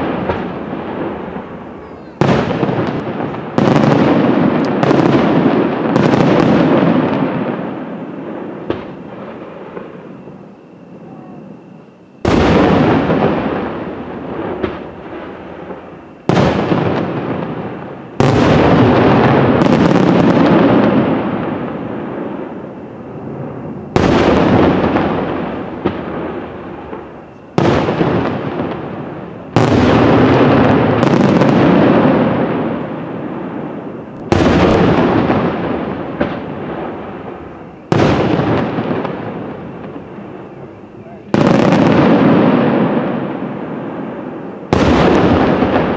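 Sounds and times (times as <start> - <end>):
firework bangs with rolling echo: 0.0 - 45.9.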